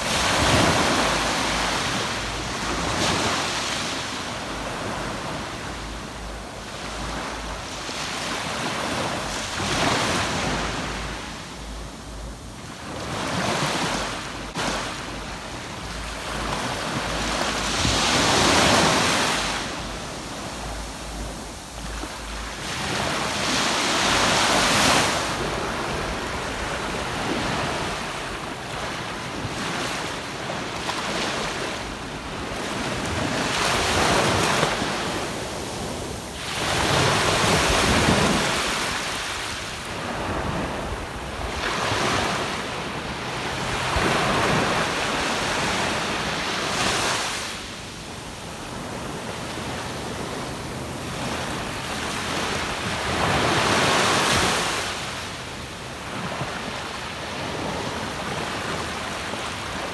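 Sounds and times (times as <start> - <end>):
waves breaking on beach: 0.0 - 59.9
wind rumble on microphone: 0.0 - 59.9.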